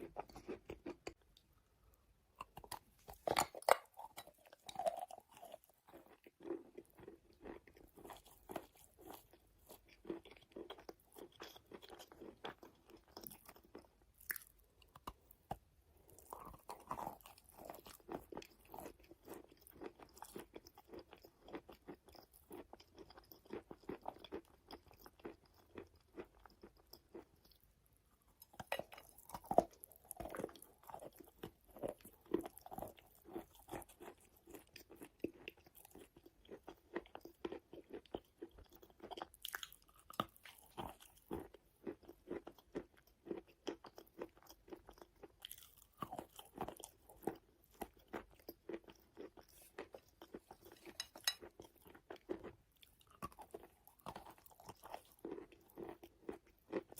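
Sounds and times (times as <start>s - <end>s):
biting and chewing chalk: 2.3s - 56.9s.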